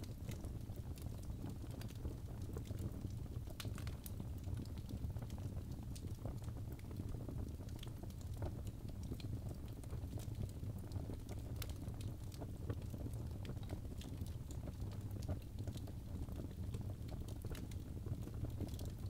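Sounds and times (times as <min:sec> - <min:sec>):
fire crackles and pops: 0:00.0 - 0:19.0
low rumble of flames: 0:00.0 - 0:19.0.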